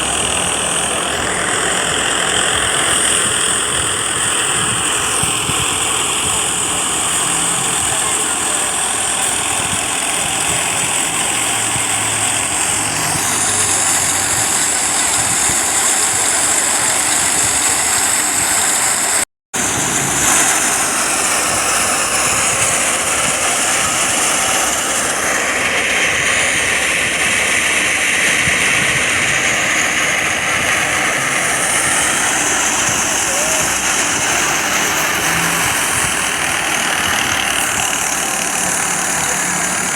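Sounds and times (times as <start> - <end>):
thresher and tractor engine din: 0.0 - 39.9.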